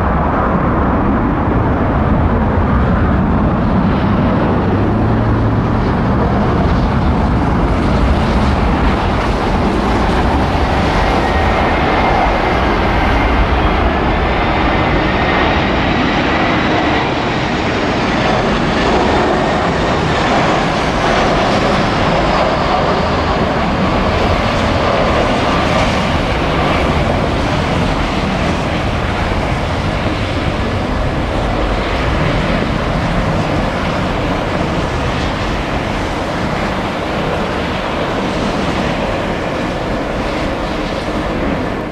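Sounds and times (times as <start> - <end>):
jet engine whine: 0.0 - 41.9
jet engines passing: 0.0 - 41.9
wind on microphone: 0.0 - 41.9.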